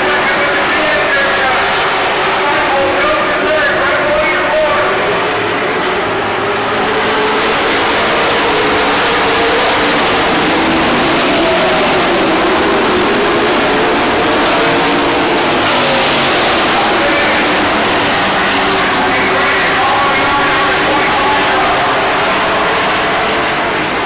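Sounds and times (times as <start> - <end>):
race car engines running hard: 0.0 - 24.0.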